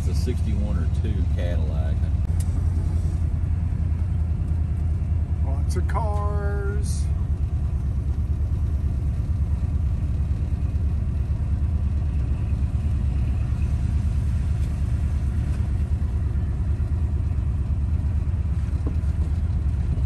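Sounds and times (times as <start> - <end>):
car engine drone in cabin: 0.0 - 20.0
tyres on wet pavement: 2.0 - 20.0.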